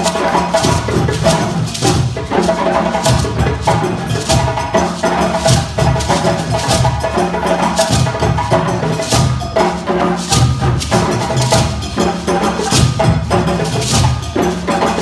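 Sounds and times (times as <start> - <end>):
hand drums playing rhythm: 0.0 - 15.0.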